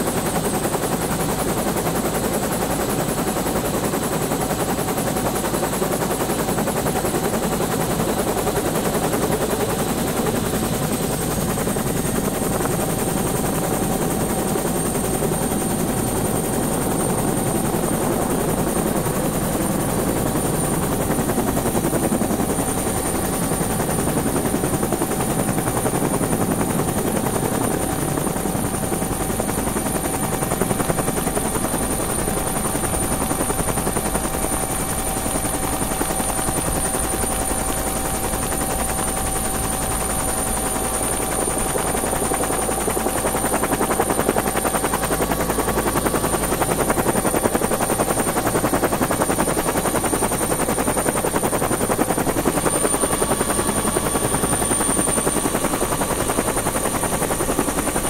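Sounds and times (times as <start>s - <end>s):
helicopter rotor chop: 0.0s - 58.0s.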